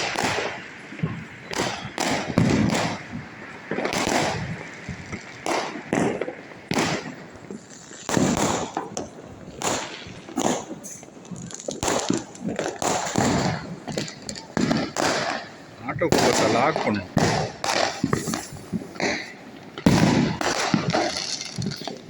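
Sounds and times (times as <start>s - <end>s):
firecrackers banging with echo: 0.0s - 22.0s.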